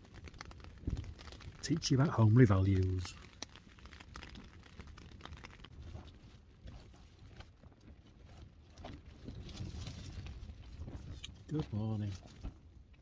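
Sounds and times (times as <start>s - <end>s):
wind on a tent: 0.0s - 13.0s.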